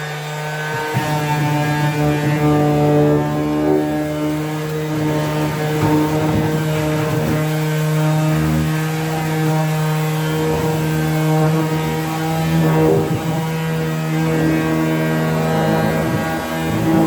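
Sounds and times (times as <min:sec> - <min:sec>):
electric sander running: 0:00.0 - 0:17.0.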